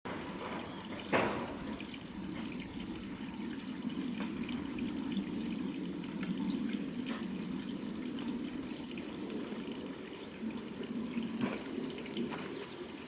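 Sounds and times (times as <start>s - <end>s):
trickle of running water: 0.1s - 13.0s.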